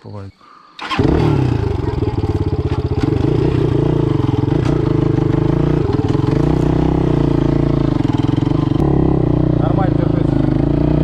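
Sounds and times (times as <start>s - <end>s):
motorcycle engine idling: 0.8s - 11.0s.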